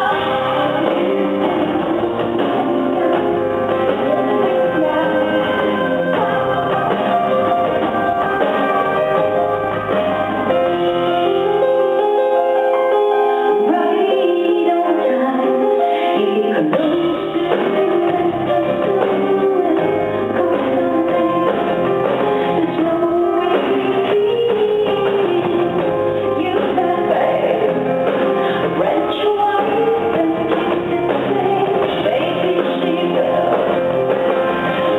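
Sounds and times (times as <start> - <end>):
woman singing: 0.0 - 9.5, 13.6 - 34.9
bass guitar: 0.0 - 14.0, 14.8 - 34.9
live band music: 0.0 - 34.9.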